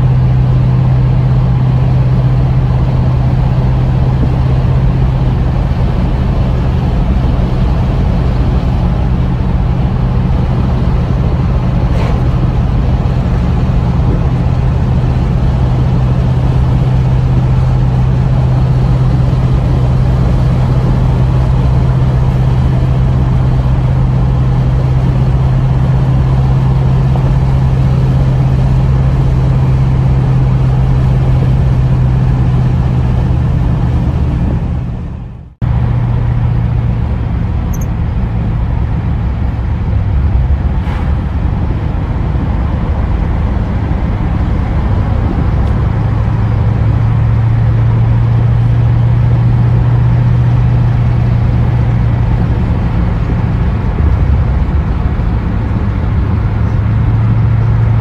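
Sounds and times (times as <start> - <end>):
car engine drone in cabin: 0.0 - 58.0
road noise: 0.0 - 58.0.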